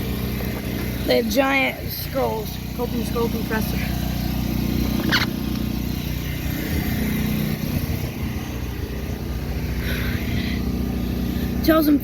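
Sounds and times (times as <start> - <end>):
air conditioner units humming: 0.0 - 12.0.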